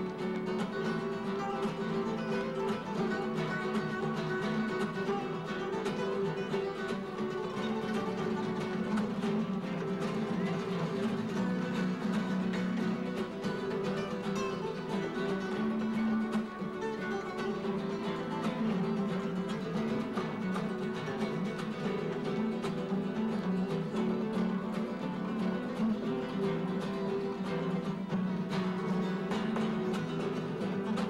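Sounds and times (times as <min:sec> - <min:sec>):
acoustic flamenco guitars: 0:00.0 - 0:31.0.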